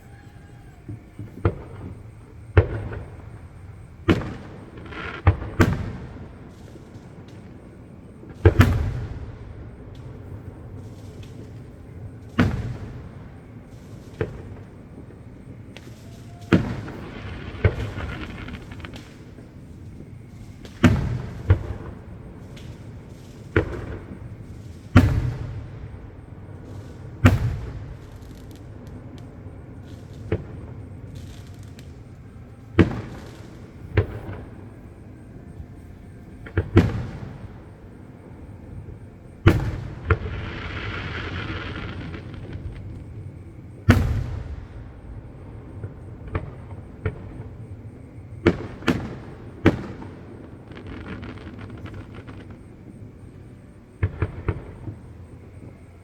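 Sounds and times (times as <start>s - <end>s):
distant fireworks booming: 0.0s - 56.0s.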